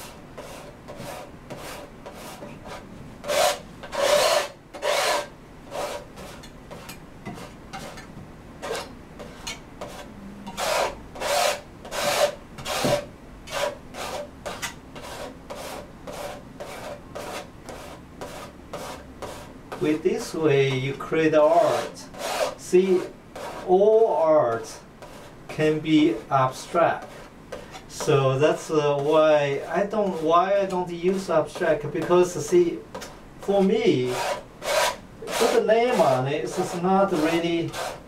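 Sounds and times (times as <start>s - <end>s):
palette knife scraping canvas: 0.0s - 8.0s, 8.6s - 20.4s, 21.6s - 23.7s, 24.5s - 25.3s, 26.1s - 31.3s, 33.0s - 38.0s.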